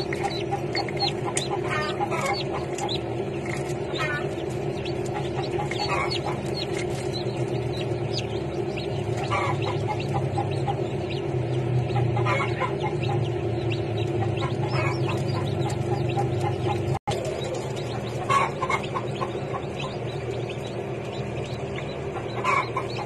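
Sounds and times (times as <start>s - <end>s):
chicks peeping: 0.0s - 23.0s
steady low hum: 0.0s - 23.0s.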